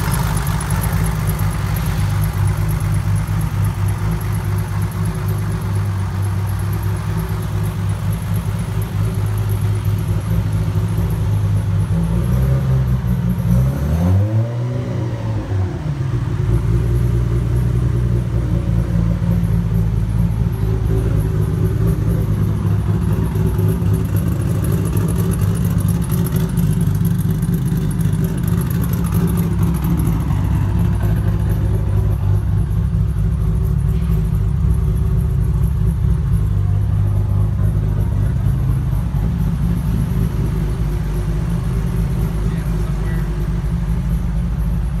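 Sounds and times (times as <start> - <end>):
car engine idling: 0.0 - 14.2, 15.4 - 45.0.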